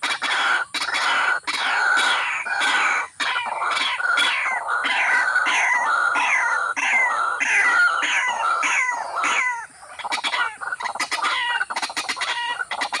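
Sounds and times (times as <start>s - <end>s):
downward-sliding bird calls: 0.0s - 13.0s.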